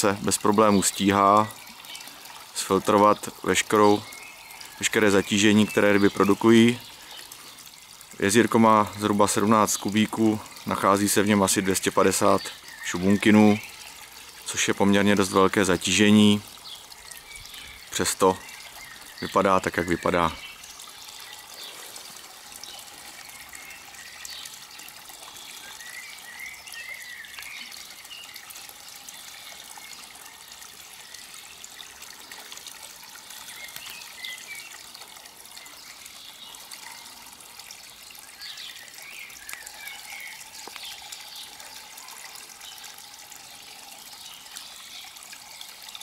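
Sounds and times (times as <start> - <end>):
water trickling into pond: 0.0 - 46.0.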